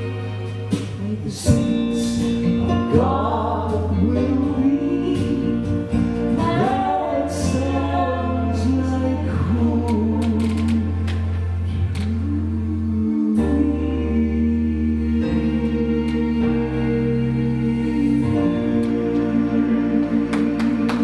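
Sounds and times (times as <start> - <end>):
sustained instrumental accompaniment: 0.0 - 21.0
person singing gospel: 1.0 - 21.0.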